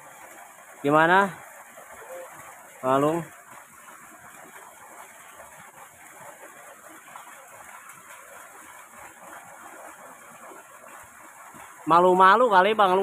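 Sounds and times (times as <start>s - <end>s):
running water in ditch: 0.0s - 13.0s.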